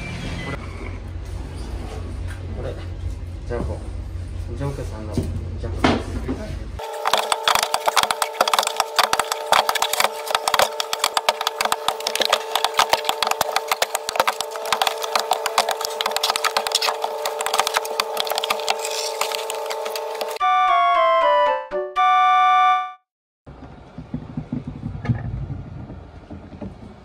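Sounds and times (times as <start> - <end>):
steady mechanical hum: 0.0 - 20.4, 23.5 - 27.0.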